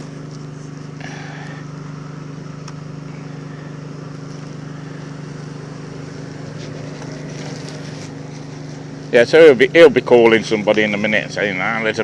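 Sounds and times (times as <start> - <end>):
electricity generators droning: 0.0 - 12.0.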